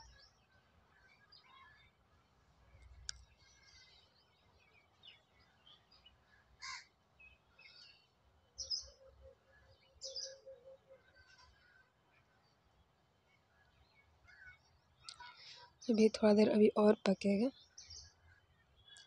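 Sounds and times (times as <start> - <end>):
faint birds calling: 0.0 - 19.0.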